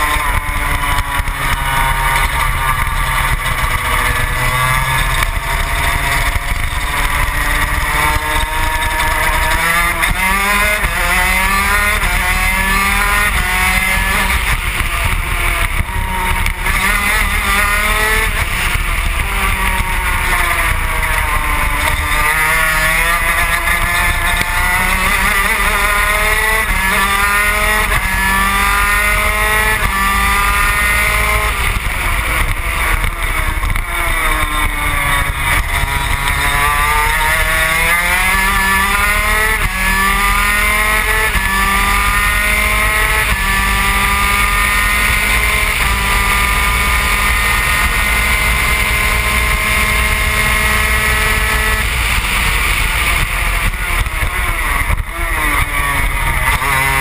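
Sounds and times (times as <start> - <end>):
racing engine revving: 0.0 - 57.0.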